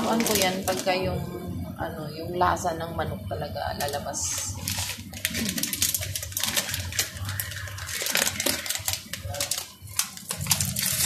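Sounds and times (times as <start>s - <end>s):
broth boiling and bubbling: 0.0s - 11.0s.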